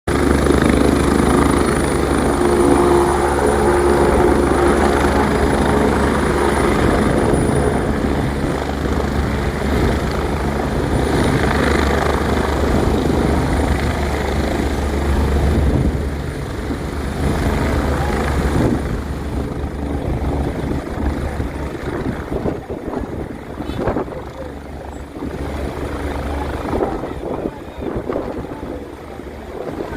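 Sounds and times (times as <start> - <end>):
helicopter rotor beat: 0.1 - 29.9
helicopter turbine whine: 0.1 - 29.9.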